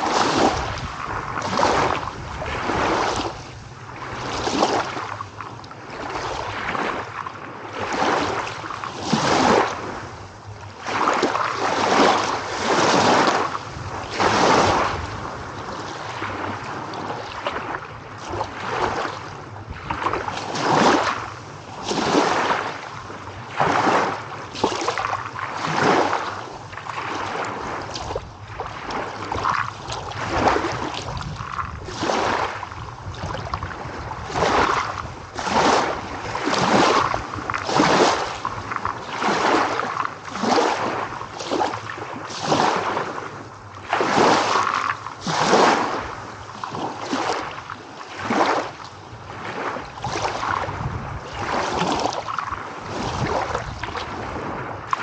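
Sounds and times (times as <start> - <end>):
small waves lapping: 0.0 - 55.0.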